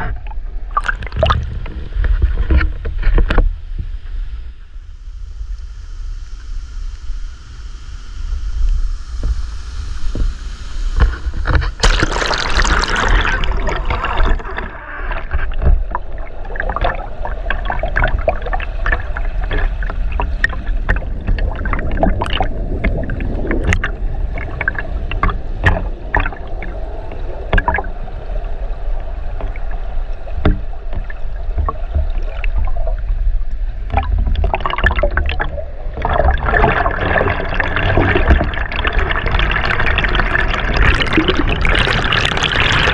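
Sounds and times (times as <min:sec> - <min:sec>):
water sloshing and gurgling: 0:00.0 - 0:04.6, 0:11.0 - 0:42.9.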